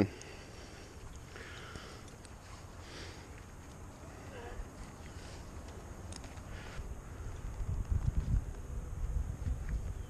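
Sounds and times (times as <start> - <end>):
climbing rope rustling: 0.0 - 9.9.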